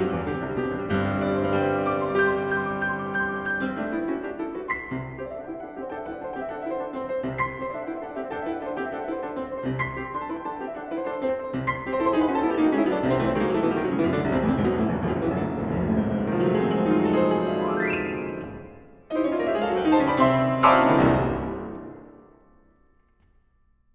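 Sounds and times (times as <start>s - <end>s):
fast piano runs: 0.0s - 22.4s
loud piano chords and crash: 0.0s - 22.8s.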